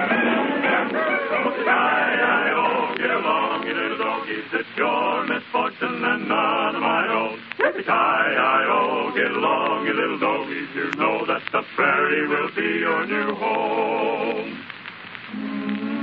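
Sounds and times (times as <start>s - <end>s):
men singing held wavering notes: 0.0s - 14.7s.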